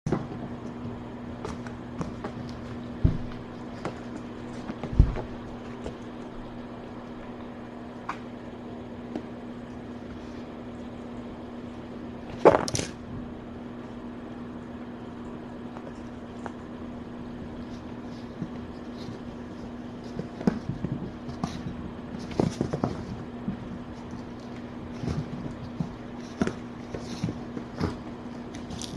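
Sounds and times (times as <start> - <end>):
electrical hum: 0.1 - 28.9.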